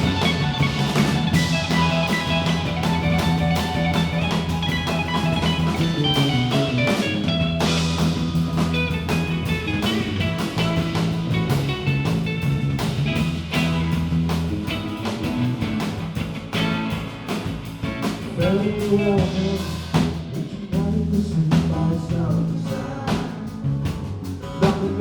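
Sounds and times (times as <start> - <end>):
guitar lines: 0.0 - 20.7
held bass: 0.0 - 25.0
steady drum beat: 0.0 - 25.0.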